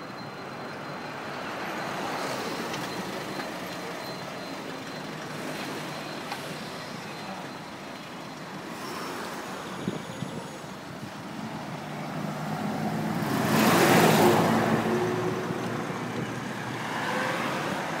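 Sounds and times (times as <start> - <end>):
bus diesel engine passing: 0.0 - 18.0
road traffic: 0.0 - 18.0.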